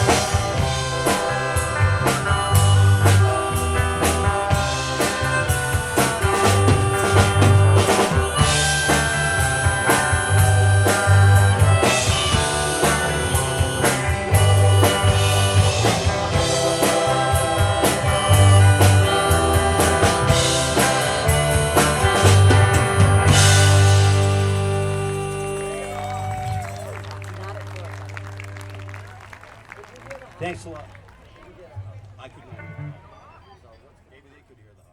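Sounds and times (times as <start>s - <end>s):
steady drum beat: 0.0s - 29.1s
pulsing bass line: 0.0s - 29.5s
live rock band playing: 0.0s - 30.8s, 32.3s - 33.6s.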